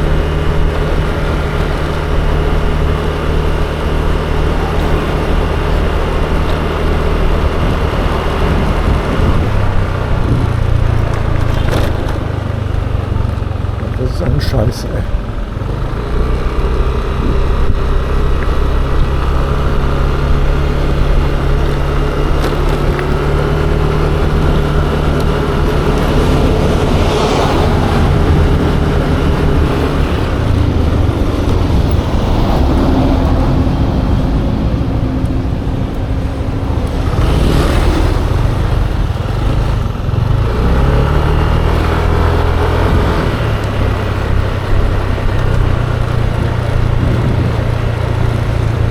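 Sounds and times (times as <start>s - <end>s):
rushes of noise: 0.0s - 48.9s
scooter engine drone: 0.0s - 48.9s.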